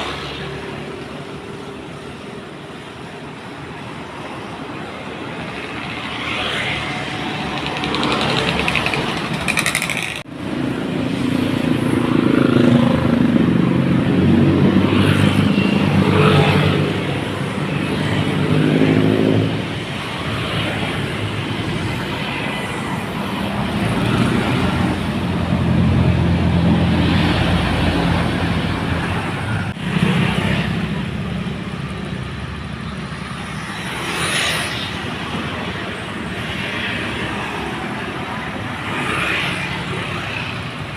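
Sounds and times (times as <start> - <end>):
dump truck diesel engines labouring: 0.0 - 34.2.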